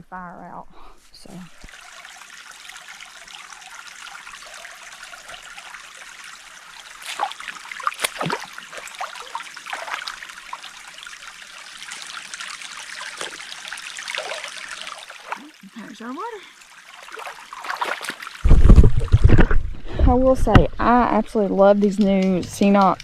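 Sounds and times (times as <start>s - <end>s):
creek flowing: 1.2s - 19.8s
water splashing: 1.2s - 19.8s.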